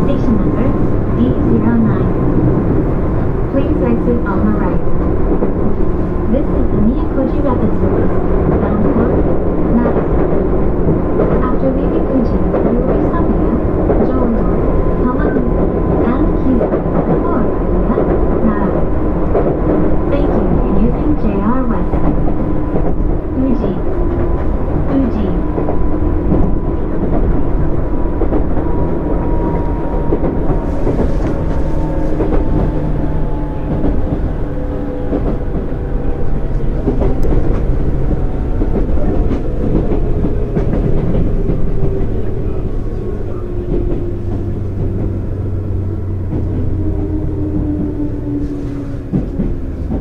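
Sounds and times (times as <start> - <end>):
wheels rumbling on rail: 0.0 - 50.0.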